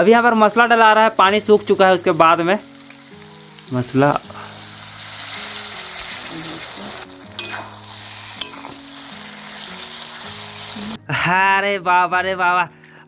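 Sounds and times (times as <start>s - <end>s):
food sizzling in a pan: 0.0s - 11.0s
faint background music: 0.0s - 13.0s.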